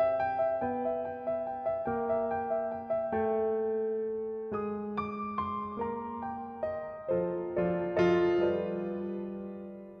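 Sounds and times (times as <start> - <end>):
piano chord: 0.0 - 10.0.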